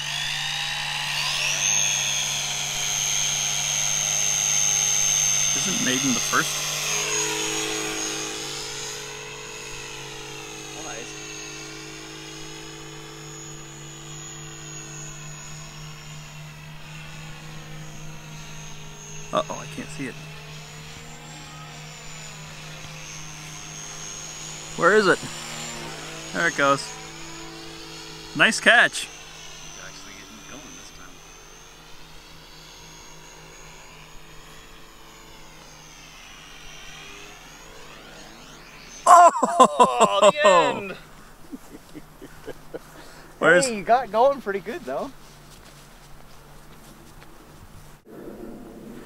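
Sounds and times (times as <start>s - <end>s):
model plane electric motor whine: 0.0s - 49.0s.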